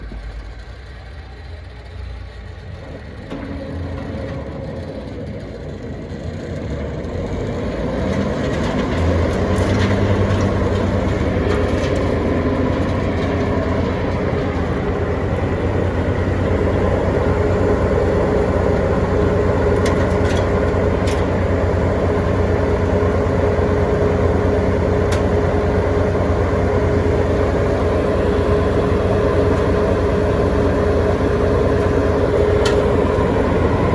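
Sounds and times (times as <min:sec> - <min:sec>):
steady whine: 0:00.0 - 0:33.9
woodchipper engine running: 0:00.0 - 0:33.9.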